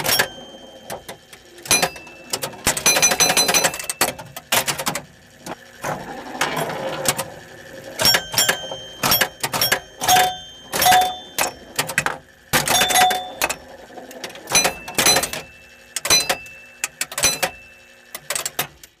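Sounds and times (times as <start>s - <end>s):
pinball coils and relays clattering: 0.0s - 19.0s.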